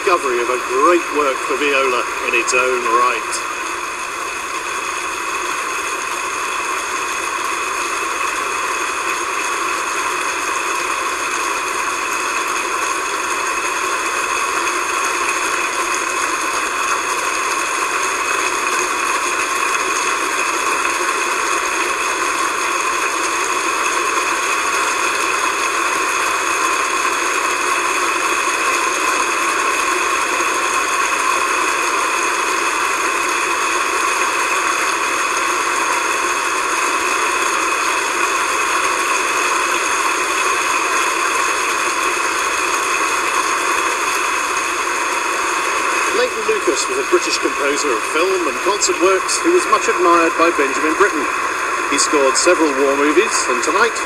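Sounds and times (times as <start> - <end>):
large audience applauding: 0.0 - 54.0.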